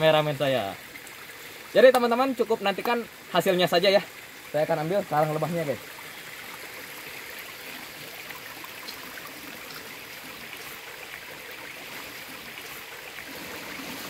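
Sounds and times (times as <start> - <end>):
small stream flowing: 0.0 - 14.0.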